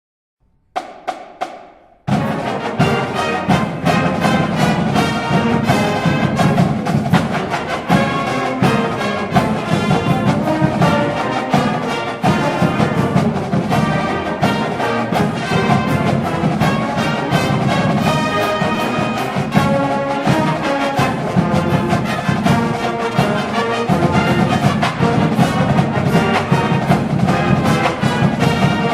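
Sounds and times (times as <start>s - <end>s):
sharp drum strikes: 0.5s - 28.9s
marching band playing: 0.8s - 28.9s.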